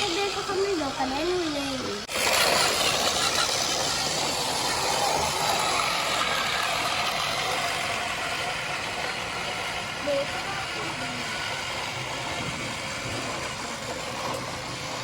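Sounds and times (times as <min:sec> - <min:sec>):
toy truck motor droning: 0:00.0 - 0:15.0.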